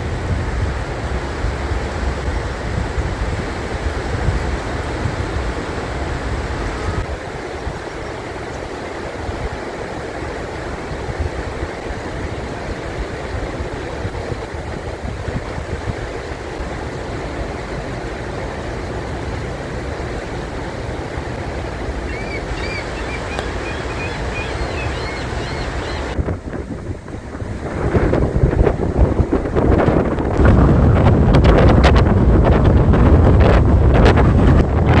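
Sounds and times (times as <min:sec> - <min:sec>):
river rushing over rapids: 0:00.0 - 0:30.7.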